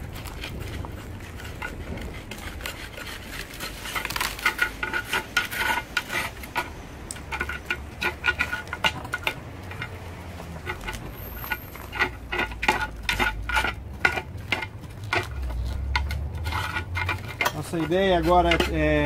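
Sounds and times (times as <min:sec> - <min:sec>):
metal blade scraping ceramic pot: 0:00.0 - 0:19.0.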